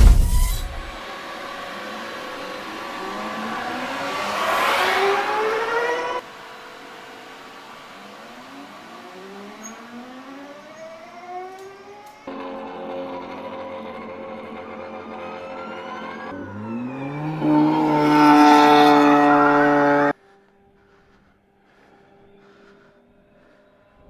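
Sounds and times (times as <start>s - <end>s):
electric motors whining: 1.6s - 21.0s.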